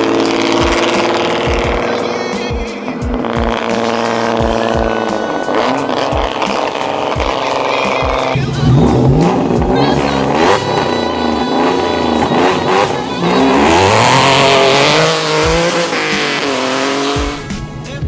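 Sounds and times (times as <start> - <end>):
car engine revving hard: 0.0 - 17.8.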